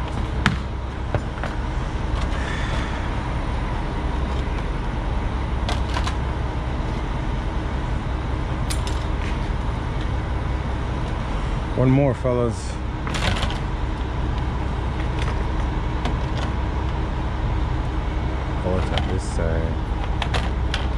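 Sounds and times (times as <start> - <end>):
trucks idling: 0.0 - 20.9.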